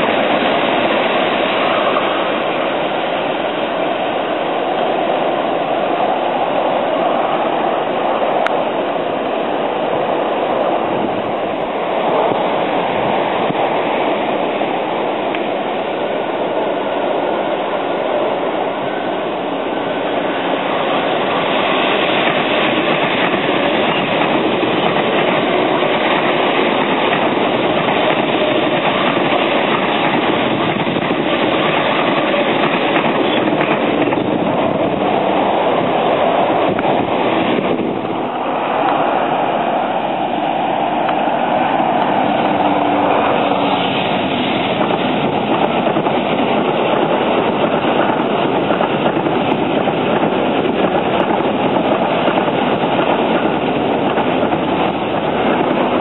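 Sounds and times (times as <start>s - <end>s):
electric train rolling past: 0.0s - 56.0s.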